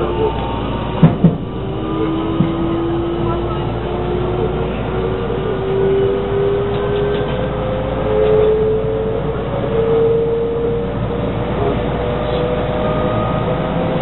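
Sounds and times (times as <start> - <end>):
electric train motor whine: 0.0 - 14.0
train wheels rumbling on rails: 0.0 - 14.0.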